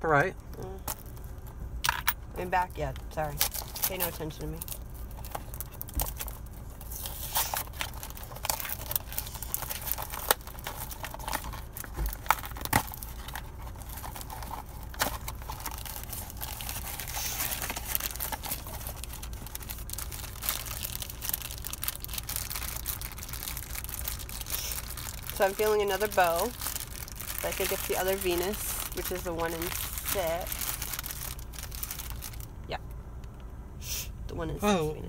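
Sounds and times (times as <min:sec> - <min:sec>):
foil bag crinkling: 0:03.2 - 0:32.6.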